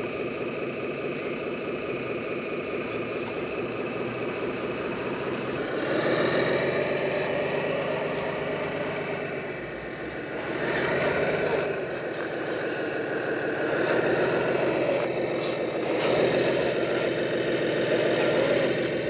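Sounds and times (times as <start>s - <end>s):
hydraulic pump and motors droning: 0.0s - 19.0s.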